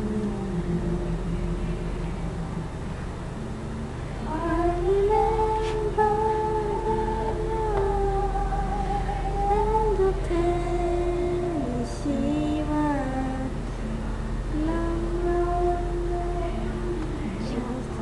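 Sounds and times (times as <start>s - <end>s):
person singing unaccompanied: 0.0s - 2.4s, 4.2s - 13.6s, 14.5s - 18.0s.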